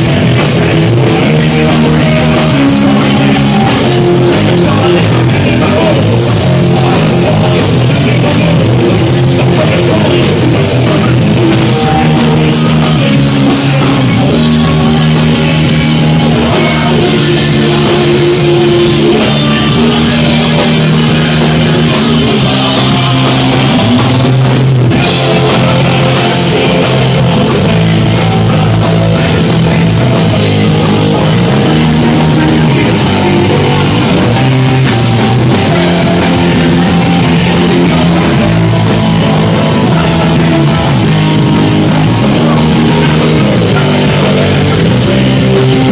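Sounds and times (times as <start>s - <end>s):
distorted electric guitar chords: 0.0s - 45.9s
heavy rock band playing: 0.0s - 45.9s.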